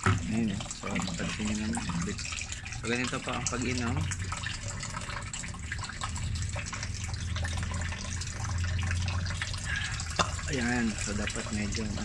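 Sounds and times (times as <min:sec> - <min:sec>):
water gulping with clicks: 0:00.0 - 0:12.0.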